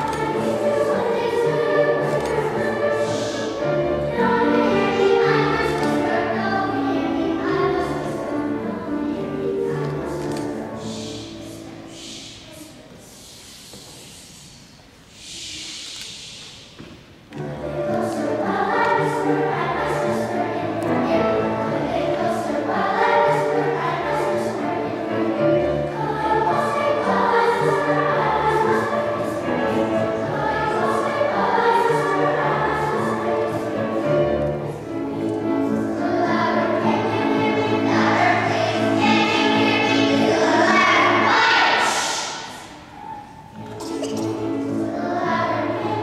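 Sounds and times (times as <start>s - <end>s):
children's choir singing: 0.0s - 46.0s.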